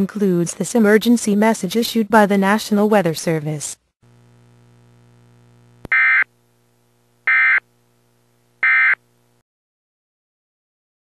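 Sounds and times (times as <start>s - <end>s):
faint steady hum: 0.0s - 9.4s.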